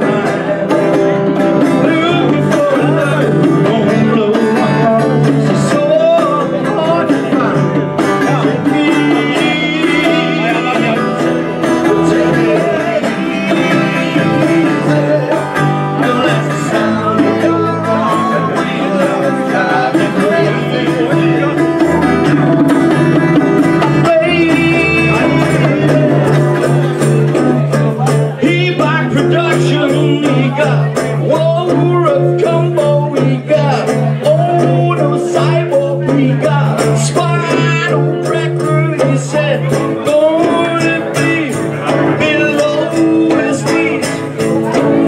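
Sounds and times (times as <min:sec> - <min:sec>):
bass guitar: 0:00.0 - 0:45.0
electric guitar: 0:00.0 - 0:45.0
man singing into microphone: 0:00.0 - 0:45.0.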